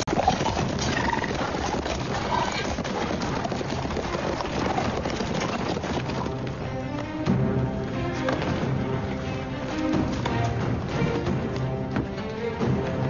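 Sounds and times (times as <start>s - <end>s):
horses' hooves clattering: 0.0s - 13.0s.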